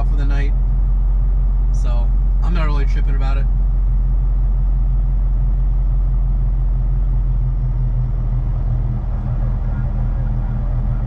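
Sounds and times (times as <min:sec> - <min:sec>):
diesel engine droning: 0:00.0 - 0:11.0
road and tyre noise: 0:00.0 - 0:11.0.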